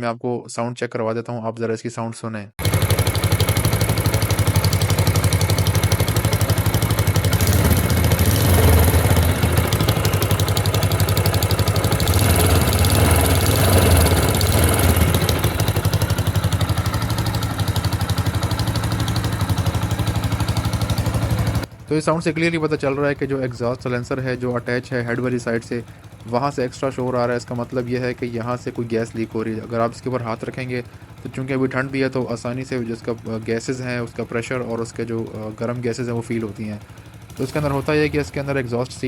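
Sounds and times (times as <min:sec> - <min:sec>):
exhaust leak noise: 0:02.6 - 0:35.1, 0:36.8 - 0:39.0
motorcycle engine idling: 0:02.6 - 0:39.0.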